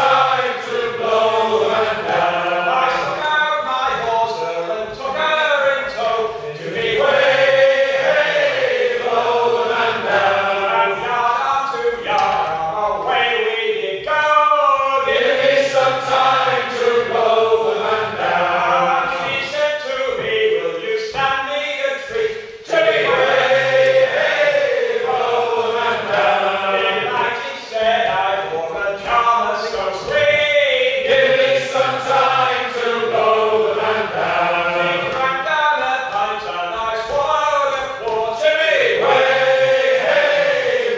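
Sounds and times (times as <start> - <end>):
men singing unaccompanied: 0.0 - 40.9.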